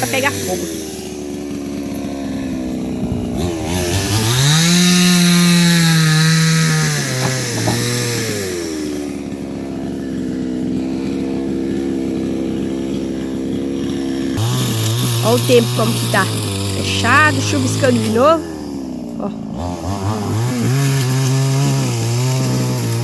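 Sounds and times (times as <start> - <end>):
two-stroke chainsaw revving and idling: 0.0 - 23.0.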